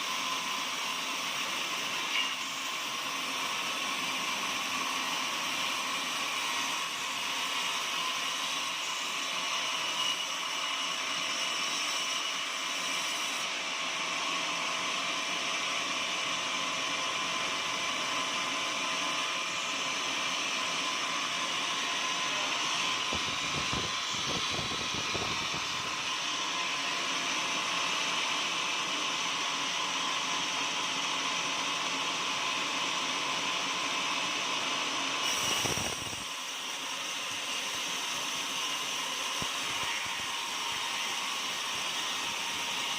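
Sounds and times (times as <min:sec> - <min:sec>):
sawmill sawing a log: 0:00.0 - 0:28.7, 0:35.3 - 0:42.9.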